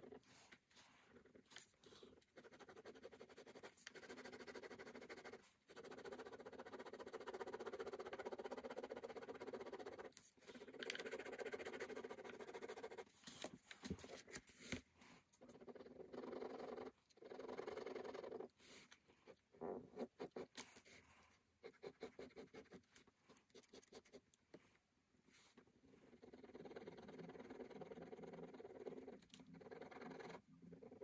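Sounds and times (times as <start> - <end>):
ballpoint pen scratching paper: 0.0 - 14.8, 15.4 - 24.6, 25.3 - 31.0.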